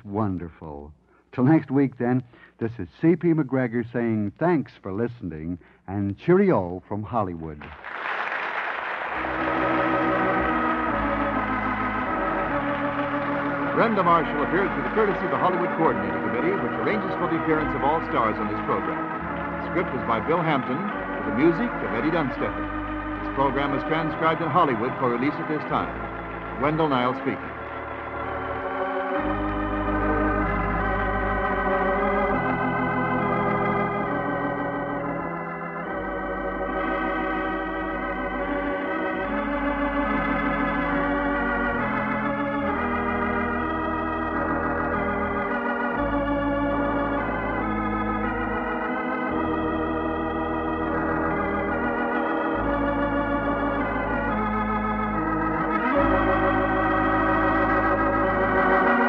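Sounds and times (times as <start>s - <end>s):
organ playing chords: 0.0s - 59.0s.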